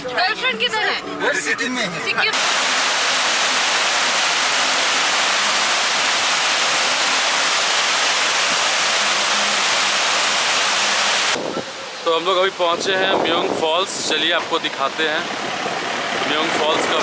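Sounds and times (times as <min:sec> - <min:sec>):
waterfall rushing: 0:02.2 - 0:17.0
water splashing on boulders: 0:02.3 - 0:17.0.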